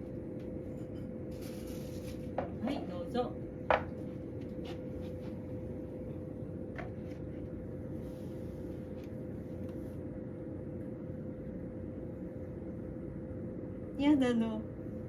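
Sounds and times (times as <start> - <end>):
room heater humming: 0.0 - 15.0.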